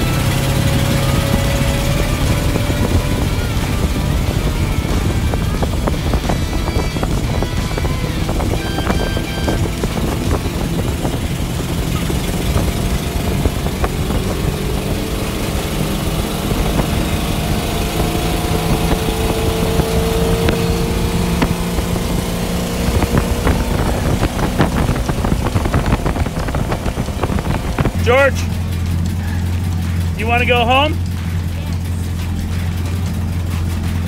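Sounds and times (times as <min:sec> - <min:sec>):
boat engine running: 0:00.0 - 0:34.0
wind and water rushing: 0:00.0 - 0:34.0.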